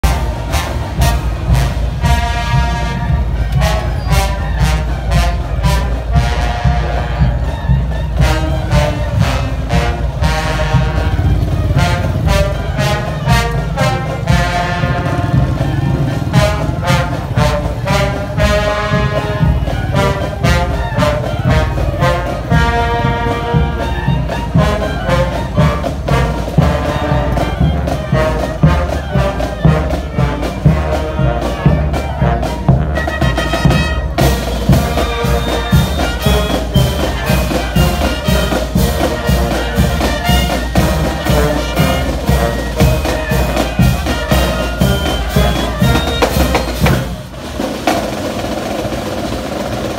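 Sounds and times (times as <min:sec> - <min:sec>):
brass instruments playing: 0:00.0 - 0:49.9
steady drum beat: 0:00.0 - 0:49.9.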